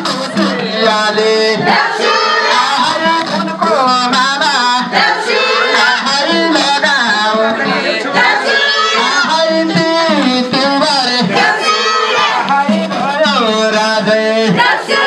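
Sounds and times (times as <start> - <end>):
women and children singing: 0.0 - 3.4, 4.8 - 12.6, 13.3 - 15.0
regular beat: 0.0 - 15.0.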